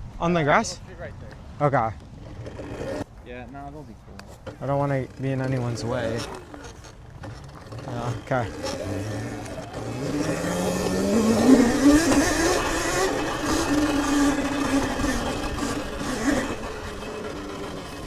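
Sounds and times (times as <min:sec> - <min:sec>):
electric motor whining: 0:02.2 - 0:03.1, 0:04.4 - 0:18.0.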